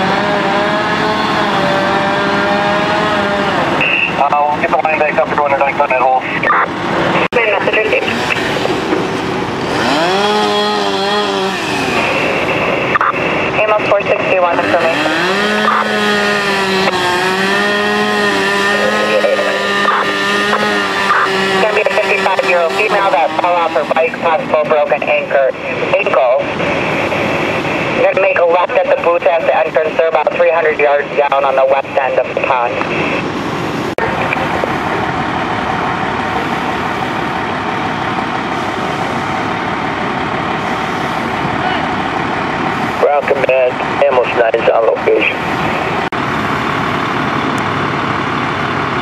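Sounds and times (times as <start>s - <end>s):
saw engine running at high revs: 0.0s - 49.0s.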